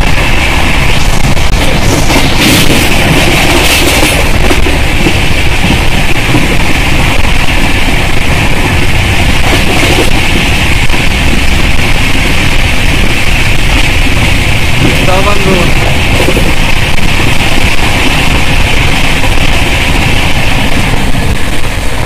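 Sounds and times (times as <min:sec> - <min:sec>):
train rushing at speed: 0:00.0 - 0:22.0.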